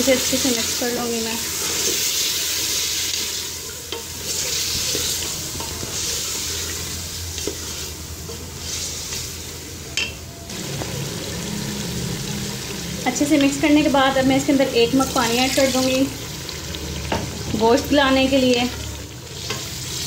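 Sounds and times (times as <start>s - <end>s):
meat sizzling in hot oil: 0.0s - 20.0s.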